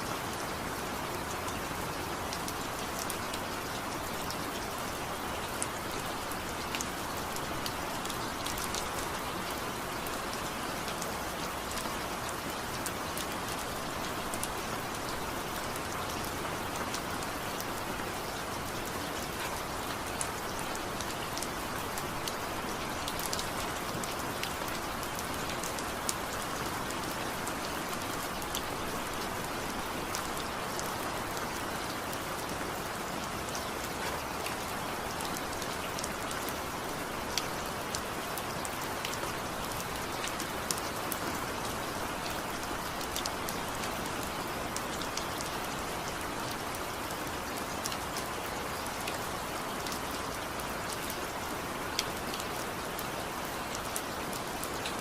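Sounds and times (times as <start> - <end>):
raindrops ticking on surfaces: 0.0 - 55.0
steady rain falling: 0.0 - 55.0.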